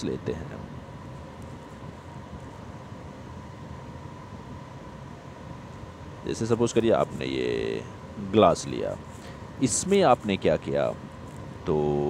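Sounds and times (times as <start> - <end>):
faint steady tone: 0.0 - 12.0
low rumble and hiss: 0.0 - 12.0.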